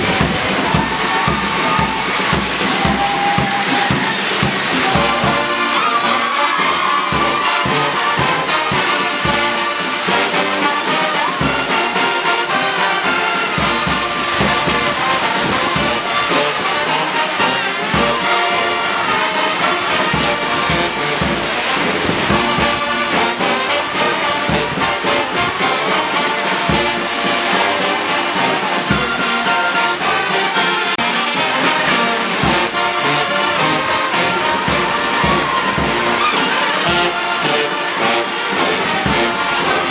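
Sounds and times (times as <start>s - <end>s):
brass band music: 0.0s - 39.9s
drum beats: 0.0s - 39.9s.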